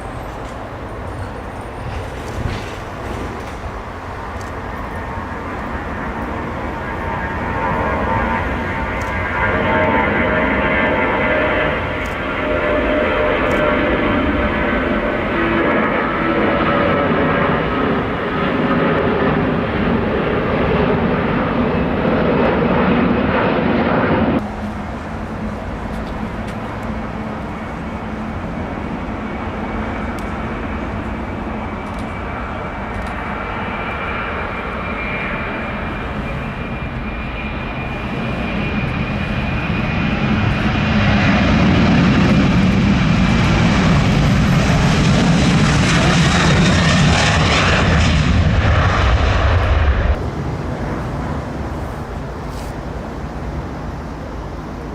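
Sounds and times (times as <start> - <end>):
approaching airliner with high whine: 0.0 - 54.9
jet airliner engines: 0.0 - 54.9.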